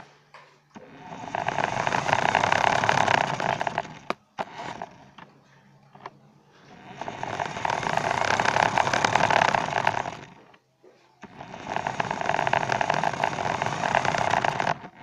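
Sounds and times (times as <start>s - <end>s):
electric toy car motor buzzing: 0.8s - 5.3s, 5.9s - 10.6s, 11.2s - 15.0s.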